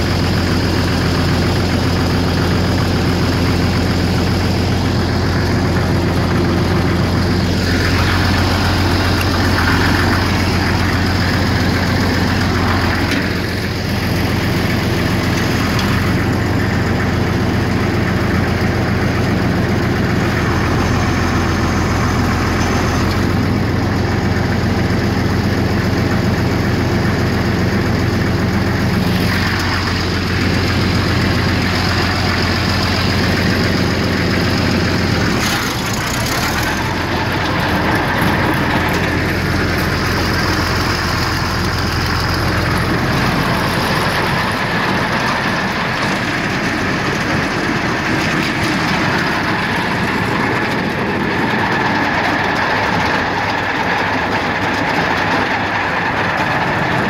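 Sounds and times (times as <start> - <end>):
swather engine running: 0.0 - 57.0.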